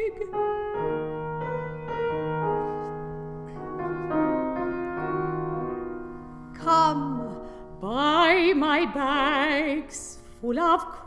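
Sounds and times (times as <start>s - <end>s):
slow piano accompaniment: 0.0s - 11.0s.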